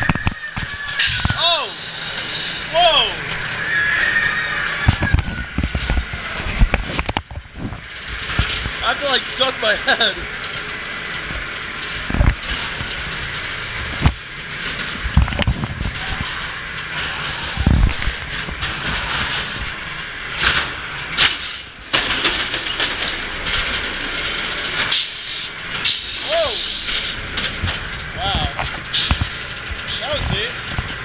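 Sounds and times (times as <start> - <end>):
ride car rattling on track: 0.0 - 31.0.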